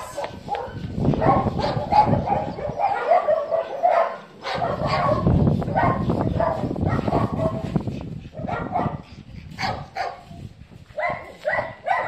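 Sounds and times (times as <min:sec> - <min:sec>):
dogs barking: 0:00.0 - 0:10.3, 0:11.0 - 0:12.0.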